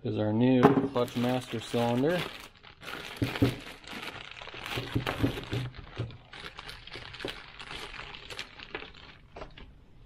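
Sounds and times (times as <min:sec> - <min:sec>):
plastic bag crinkling: 0:00.9 - 0:09.7.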